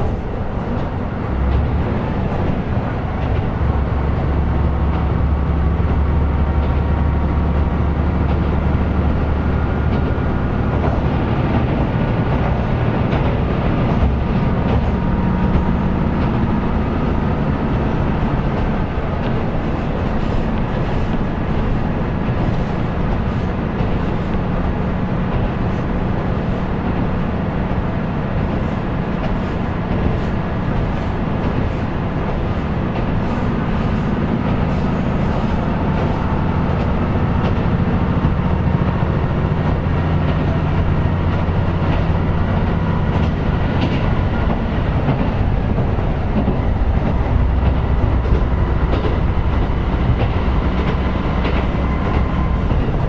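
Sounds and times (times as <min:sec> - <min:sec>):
diesel railcar engine drone: 0:00.0 - 0:53.0
wheel and rail noise: 0:00.0 - 0:53.0.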